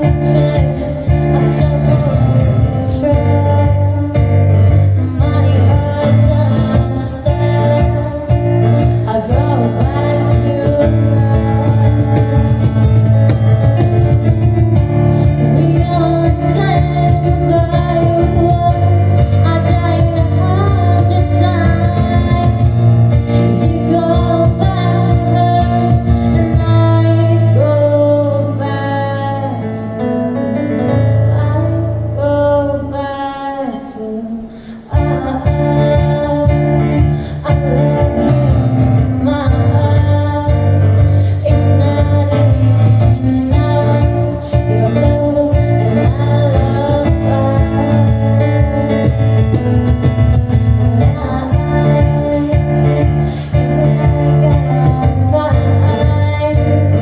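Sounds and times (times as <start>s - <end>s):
keyboard accompaniment: 0.0s - 57.0s
woman singing into microphone: 0.0s - 57.0s.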